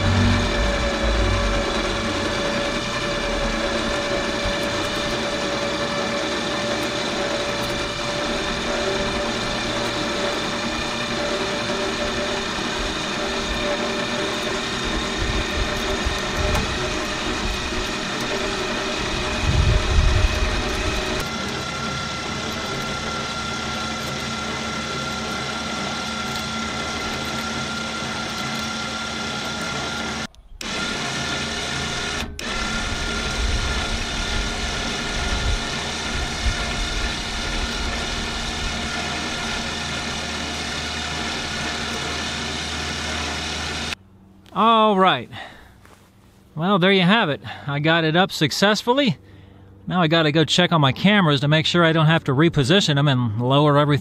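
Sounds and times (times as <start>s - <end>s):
electric winch motor running: 0.0s - 44.0s.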